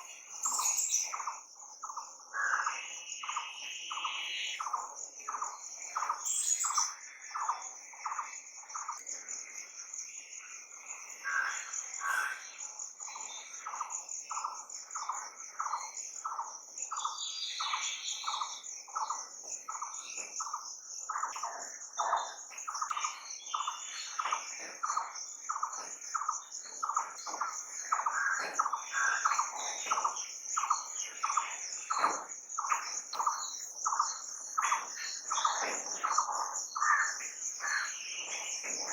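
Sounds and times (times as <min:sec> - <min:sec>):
bird calls: 0:00.0 - 0:38.9
high insect trill: 0:00.0 - 0:38.9.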